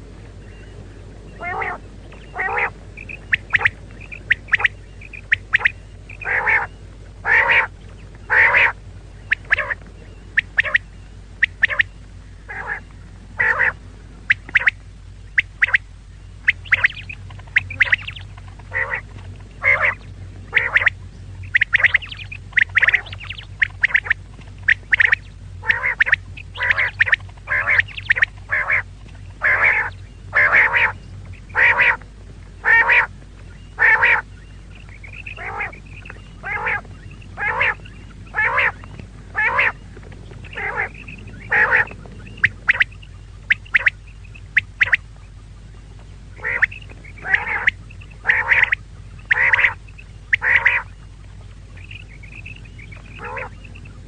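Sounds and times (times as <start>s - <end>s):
quail calling: 0.5s - 54.0s.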